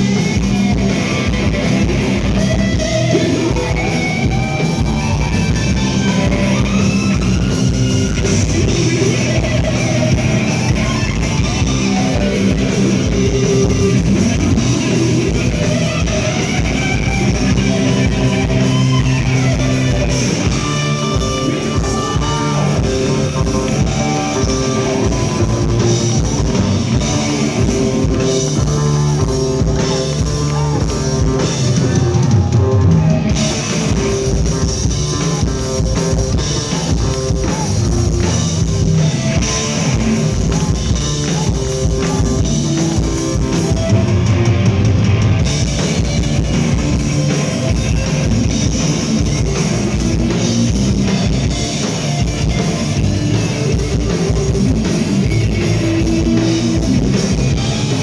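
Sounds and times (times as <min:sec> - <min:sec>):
live heavy metal band: 0:00.0 - 0:58.0.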